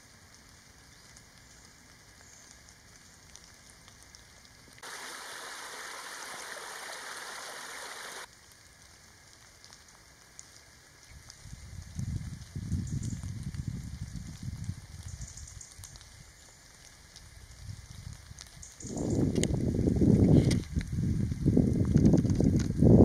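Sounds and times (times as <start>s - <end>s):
light rain in woodland: 0.0s - 23.0s
water cascading over leaves: 0.0s - 23.0s.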